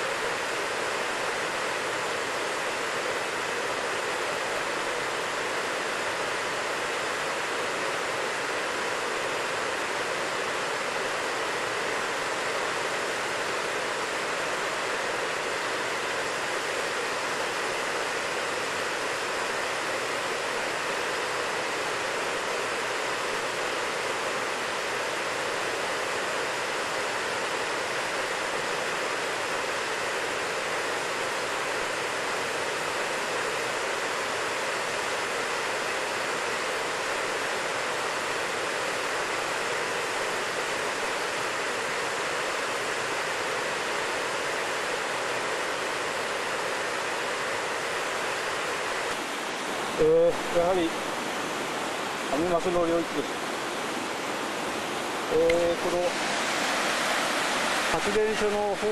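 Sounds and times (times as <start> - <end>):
water rushing over a spillway: 0.0 - 58.9.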